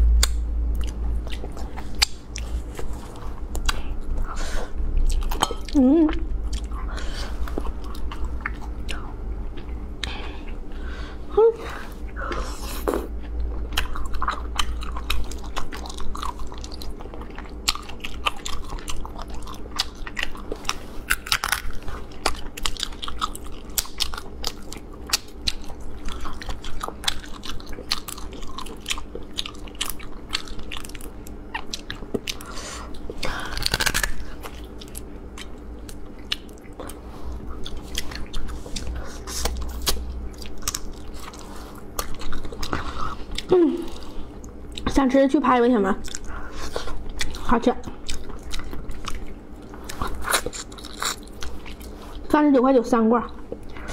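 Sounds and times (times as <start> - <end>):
biting and chewing: 0.2 - 10.7, 12.0 - 44.9, 46.0 - 52.3.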